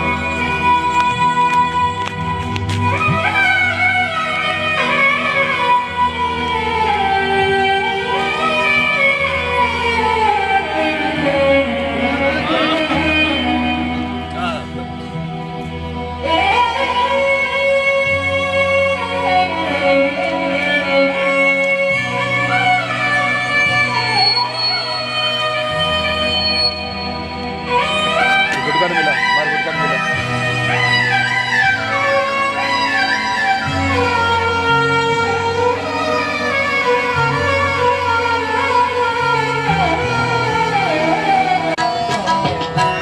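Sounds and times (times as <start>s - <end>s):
bass notes: 0.0s - 43.0s
synthesizer violin-like melody: 0.0s - 43.0s.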